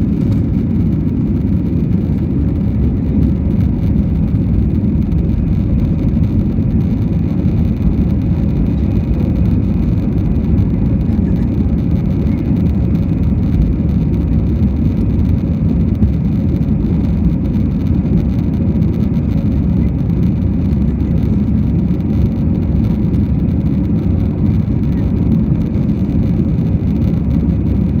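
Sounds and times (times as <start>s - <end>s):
jet engine rumble in cabin: 0.0s - 28.0s.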